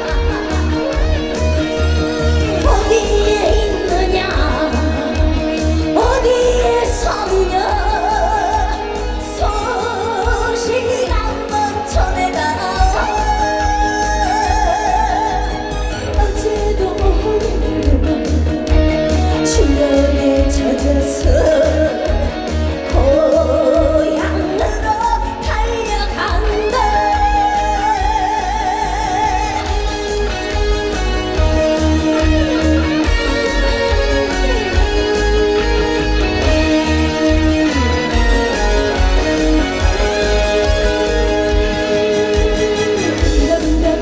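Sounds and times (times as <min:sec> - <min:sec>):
band backing track with bass beat: 0:00.0 - 0:44.0
woman singing with vibrato: 0:00.0 - 0:44.0.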